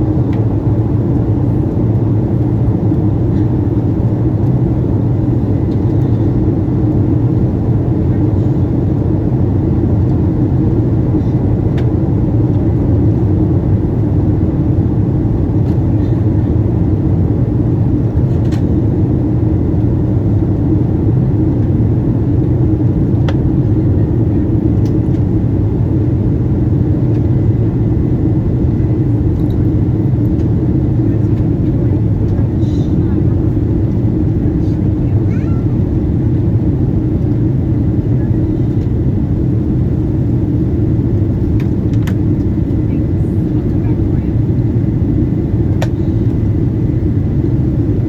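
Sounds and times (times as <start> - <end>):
airplane cabin engine rumble: 0.0 - 48.0.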